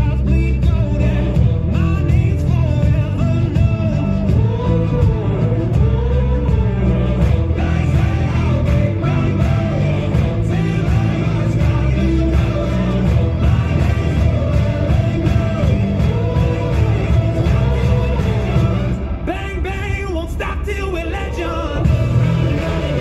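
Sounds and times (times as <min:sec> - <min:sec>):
song with singing voice: 0:00.0 - 0:23.0.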